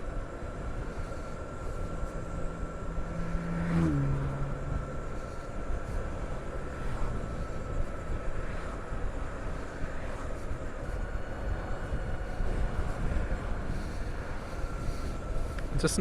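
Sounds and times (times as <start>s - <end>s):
faint high whine: 0.0s - 16.0s
road noise: 0.0s - 16.0s
wind rushing over microphone: 0.0s - 16.0s.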